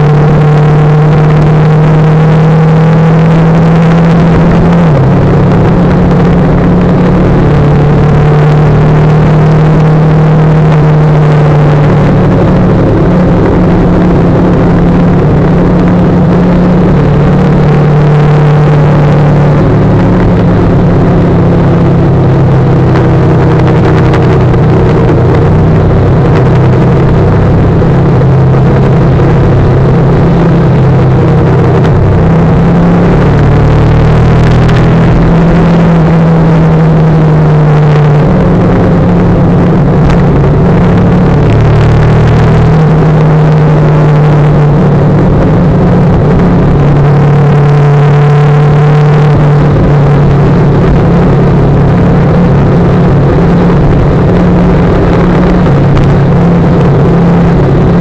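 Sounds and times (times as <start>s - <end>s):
motorcycle engine cruising: 0.0s - 58.0s
wind noise rushing: 3.0s - 58.0s.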